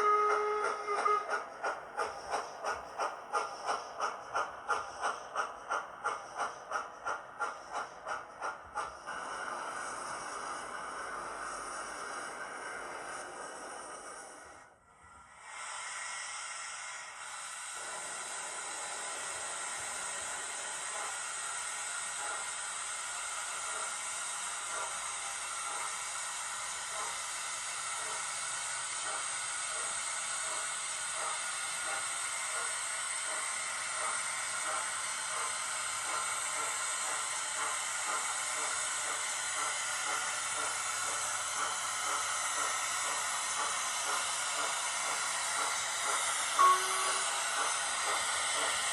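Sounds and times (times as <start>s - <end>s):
model steam locomotive hiss and chuffs: 0.0s - 48.9s.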